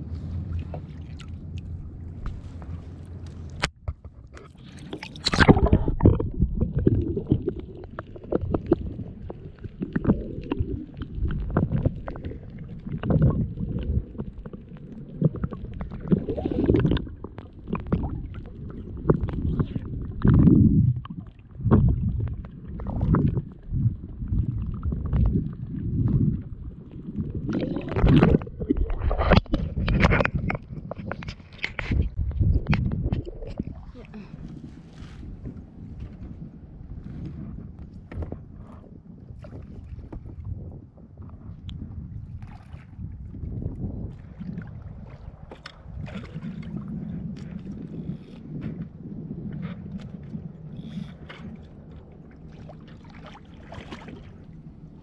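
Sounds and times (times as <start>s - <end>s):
water splashes: 0.0s - 36.0s, 42.2s - 48.8s, 49.5s - 55.0s
muffled underwater sloshing: 0.0s - 55.0s.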